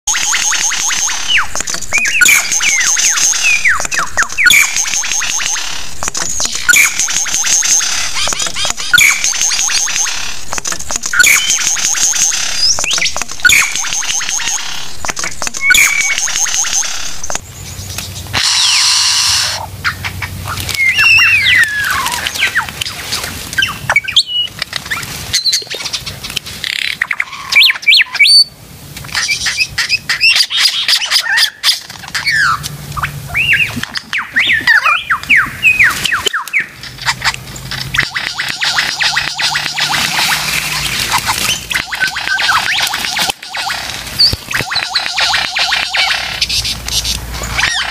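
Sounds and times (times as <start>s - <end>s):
lyrebird singing: 0.1s - 28.5s, 29.1s - 47.9s.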